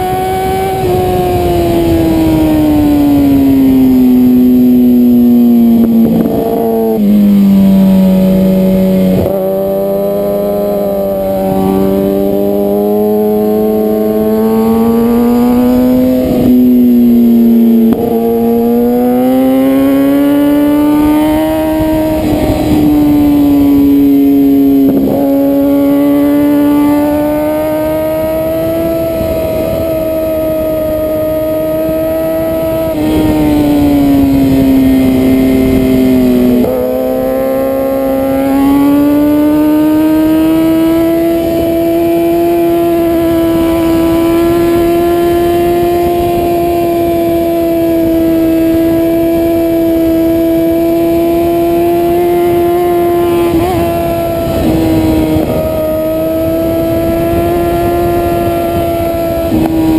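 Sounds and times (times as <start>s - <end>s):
motorbike engine at high revs: 0.0s - 59.9s
wind rush: 0.0s - 59.9s.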